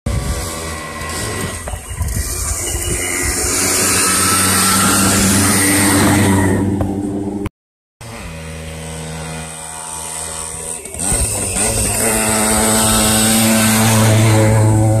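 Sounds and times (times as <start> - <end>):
motorcycle engine running hard: 0.1 - 15.0.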